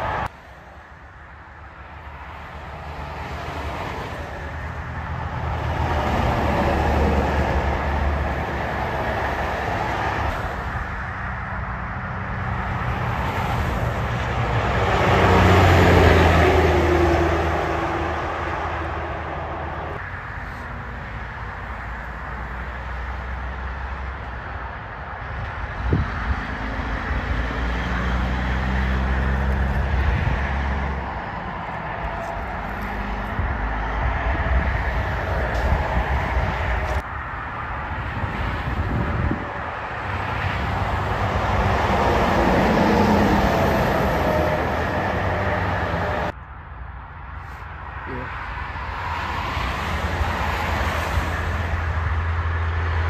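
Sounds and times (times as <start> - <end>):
trucks passing on highway: 0.0 - 53.0.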